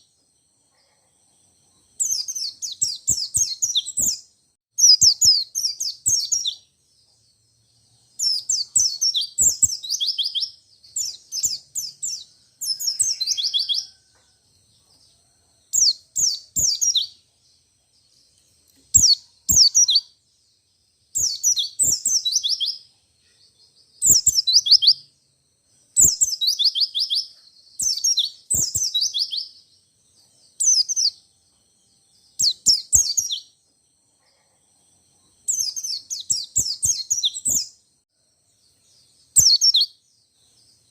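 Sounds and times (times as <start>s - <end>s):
bird singing rolling song: 0.0s - 40.9s.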